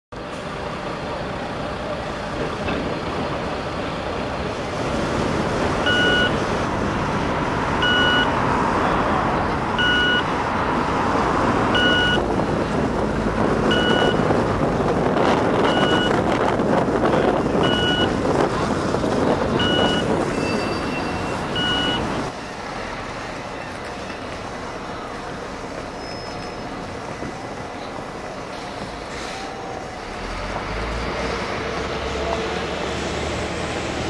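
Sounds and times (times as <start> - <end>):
street traffic: 0.1 - 34.0.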